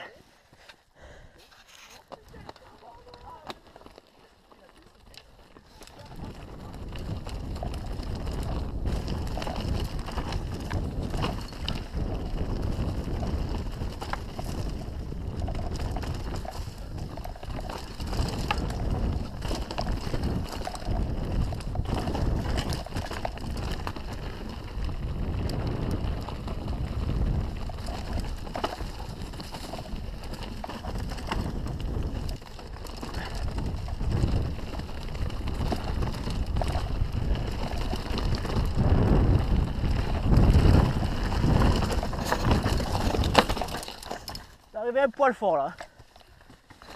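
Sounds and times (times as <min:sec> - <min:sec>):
tyres rolling over stones: 0:01.5 - 0:44.8
bike knocking and rattling: 0:01.8 - 0:44.8, 0:45.7 - 0:46.9
wind buffeting microphone: 0:05.8 - 0:44.6.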